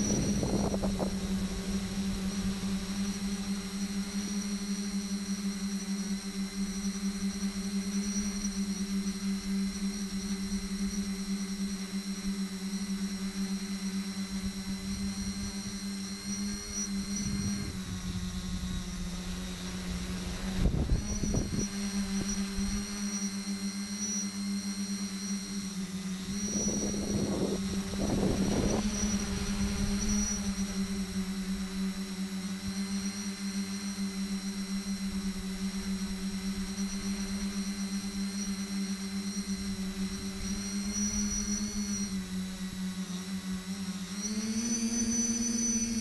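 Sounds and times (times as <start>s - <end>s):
drone motors and propellers whining: 0.0s - 46.0s.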